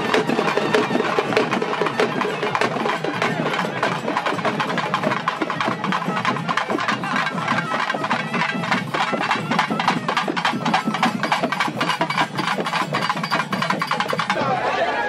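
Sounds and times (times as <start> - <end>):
barrel drums beaten with sticks: 0.0 - 14.4.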